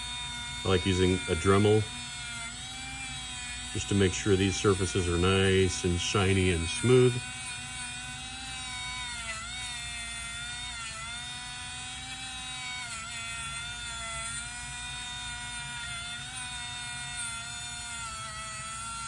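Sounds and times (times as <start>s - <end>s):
rotary tool whining: 0.0s - 19.0s.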